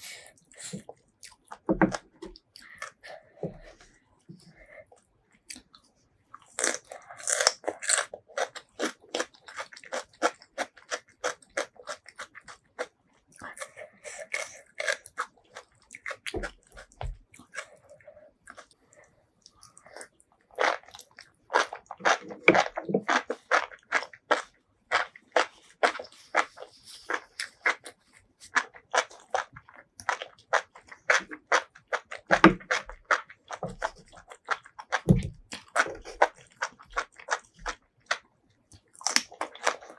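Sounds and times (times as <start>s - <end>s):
wet chewing and crunching: 0.0s - 39.9s.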